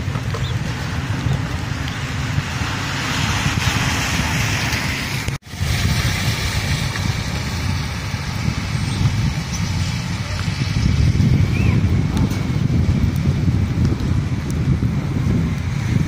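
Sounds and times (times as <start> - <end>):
wind rumbling on microphone: 0.0 - 16.0
steady rain hiss: 0.6 - 16.0.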